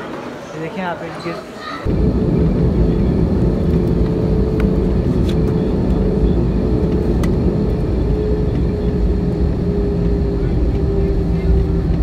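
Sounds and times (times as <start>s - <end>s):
airliner cabin engine rumble: 1.8s - 12.0s.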